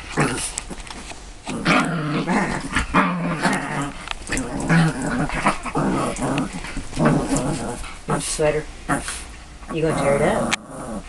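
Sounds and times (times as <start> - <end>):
dog growling: 0.0 - 0.8, 1.5 - 11.0.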